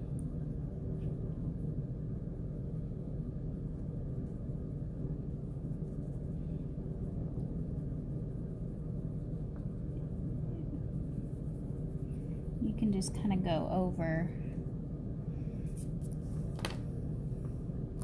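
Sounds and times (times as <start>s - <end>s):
low room noise rumble: 0.0s - 18.0s.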